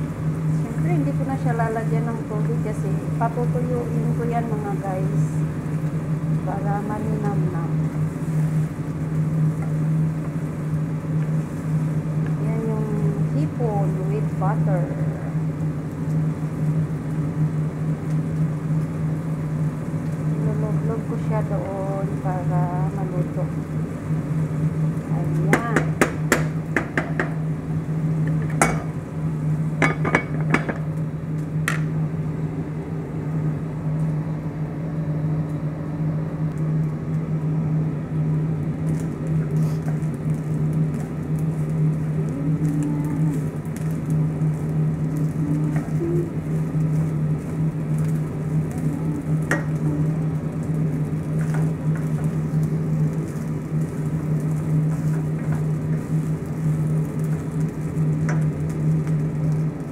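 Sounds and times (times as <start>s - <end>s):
food sizzling in a frying pan: 0.0s - 32.2s, 38.2s - 59.9s
steady low hum: 0.0s - 59.9s.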